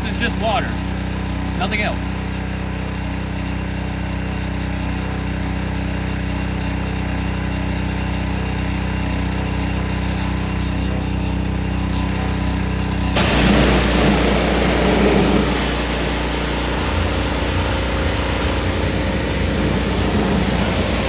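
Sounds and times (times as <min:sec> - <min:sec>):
high-pressure water spray hissing: 0:00.0 - 0:21.0
pressure washer hum: 0:00.0 - 0:21.0.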